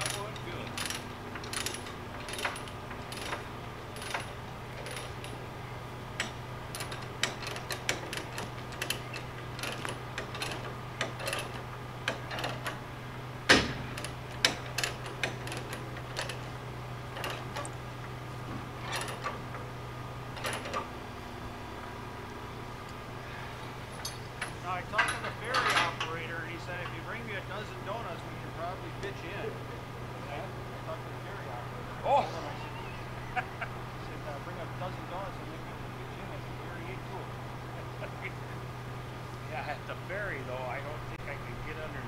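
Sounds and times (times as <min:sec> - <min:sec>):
truck engine idling: 0:00.0 - 0:42.0.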